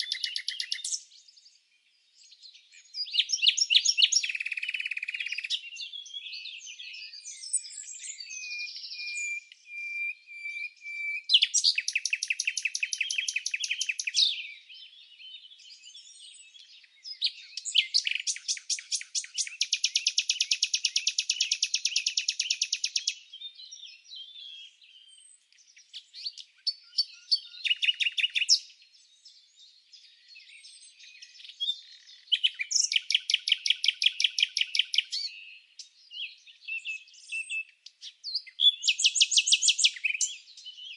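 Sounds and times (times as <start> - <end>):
bird chirps: 0.0 - 40.9
songbird trills: 0.0 - 40.9.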